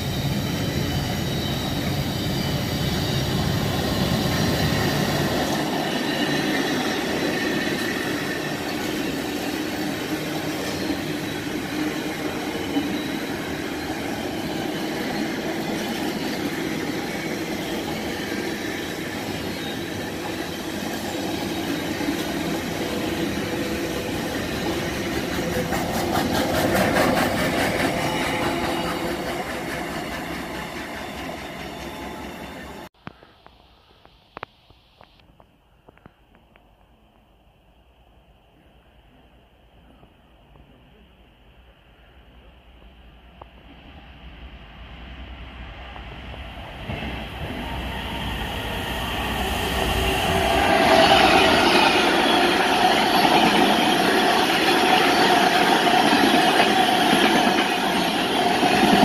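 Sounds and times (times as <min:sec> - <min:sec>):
train wagons rumbling on rails: 0:00.0 - 0:32.9, 0:42.7 - 0:59.0.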